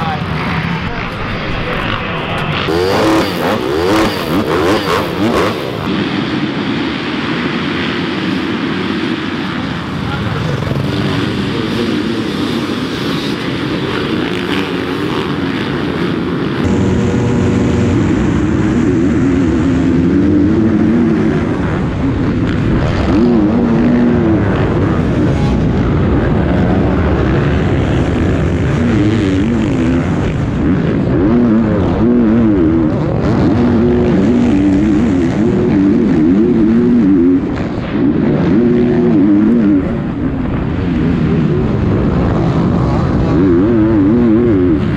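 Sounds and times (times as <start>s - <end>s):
motocross bikes racing: 0.0s - 44.9s
dirt bike engine revving: 1.2s - 6.0s, 10.4s - 44.9s.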